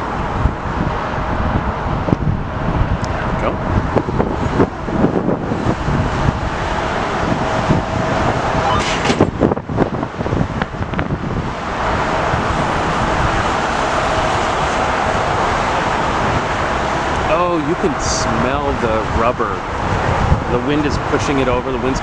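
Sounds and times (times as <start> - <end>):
jet airliner engine: 0.0 - 21.9
wind buffeting microphone: 0.0 - 22.0.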